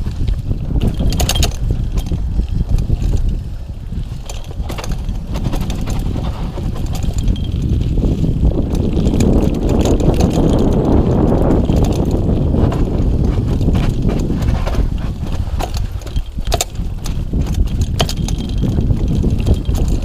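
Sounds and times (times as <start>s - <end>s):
bike rattling over bumps: 0.0s - 20.0s
bike tyres rumbling over dirt: 0.0s - 20.0s.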